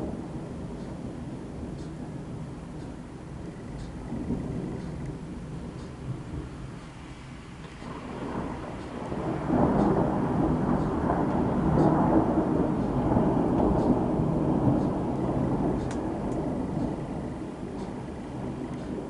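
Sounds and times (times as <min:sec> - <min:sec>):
rain pattering: 0:00.0 - 0:19.0
rolling thunder rumble: 0:00.0 - 0:19.0.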